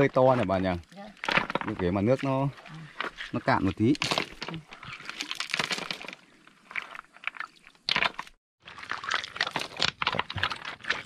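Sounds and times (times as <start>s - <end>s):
shallow water splashing: 0.7s - 11.0s
river stones clacking together: 1.2s - 11.0s.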